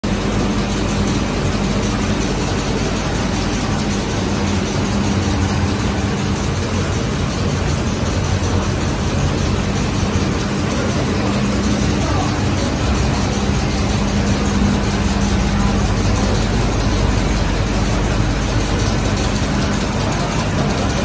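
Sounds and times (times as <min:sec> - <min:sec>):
printing machine humming and whirring: 0:00.0 - 0:21.0.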